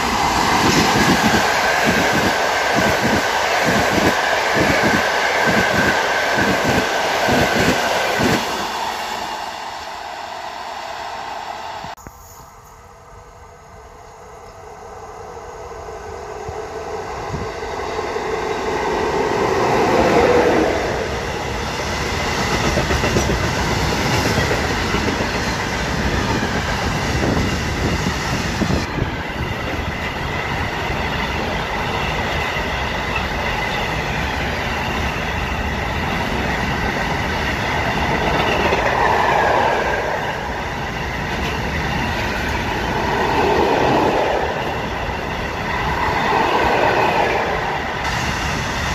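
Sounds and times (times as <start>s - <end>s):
train passing close by: 0.0s - 48.9s.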